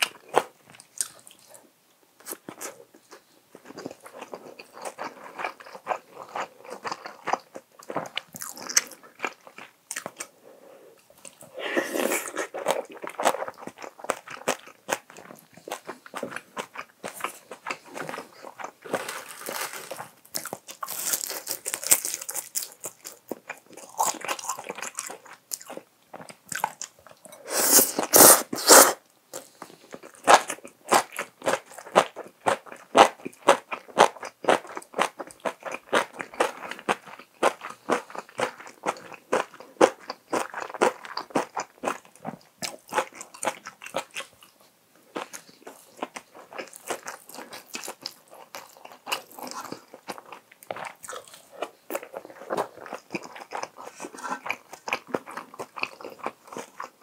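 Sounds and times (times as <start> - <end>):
person chewing crunchy food: 0.0 - 1.6, 2.2 - 10.4, 11.0 - 57.0.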